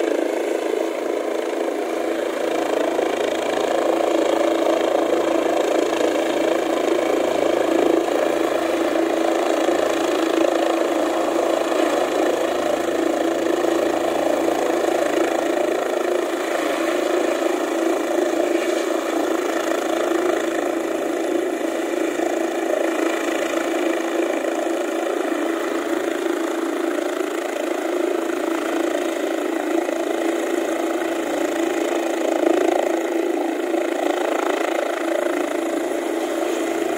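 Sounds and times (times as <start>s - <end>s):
helicopter turbine and rotor: 0.0s - 36.9s.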